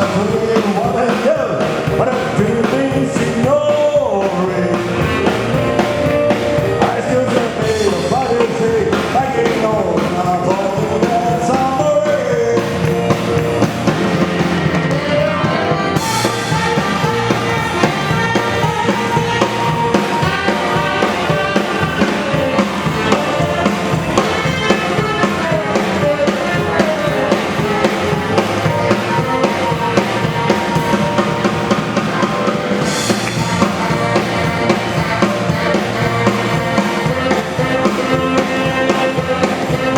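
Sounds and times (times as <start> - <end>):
rock and roll music: 0.0 - 39.9.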